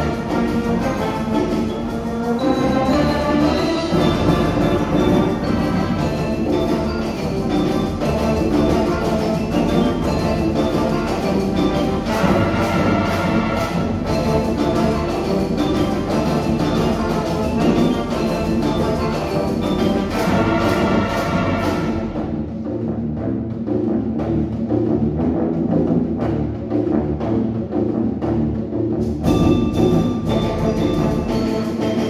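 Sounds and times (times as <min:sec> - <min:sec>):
brass chords: 0:00.0 - 0:32.0.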